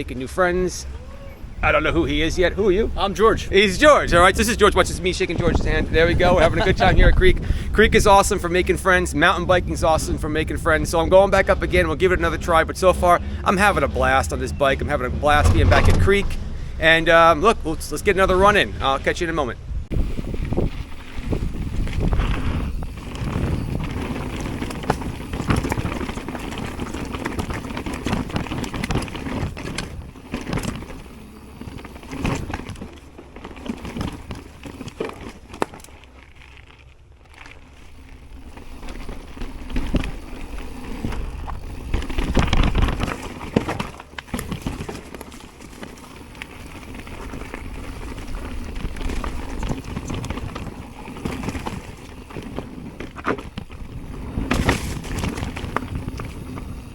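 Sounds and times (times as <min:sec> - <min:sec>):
bike clattering and rattling: 0:00.0 - 0:56.9
bike tyres rolling on dirt: 0:00.0 - 0:56.9.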